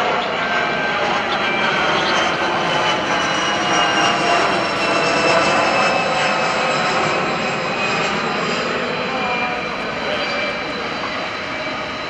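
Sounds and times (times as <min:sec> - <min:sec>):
aircraft engine drone overhead: 0:00.0 - 0:12.0.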